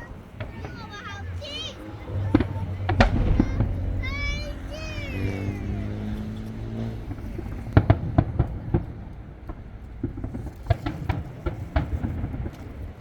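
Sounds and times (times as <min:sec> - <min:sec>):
fireworks bursting: 0:00.0 - 0:13.0
low background rumble: 0:00.0 - 0:13.0.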